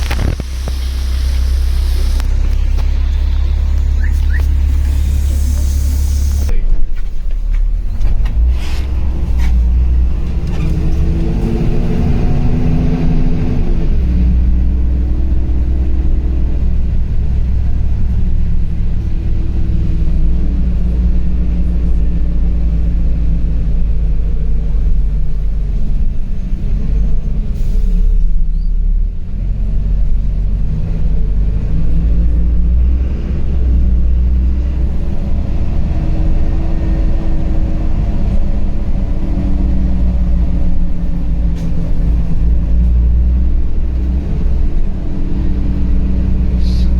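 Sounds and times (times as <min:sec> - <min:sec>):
bus engine rumble: 0:00.0 - 0:46.9.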